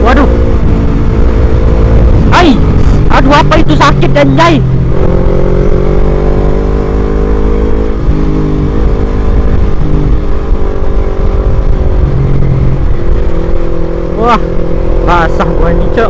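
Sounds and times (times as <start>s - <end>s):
wind buffeting microphone: 0.0s - 15.9s
motorcycle engine cruising: 0.0s - 16.0s.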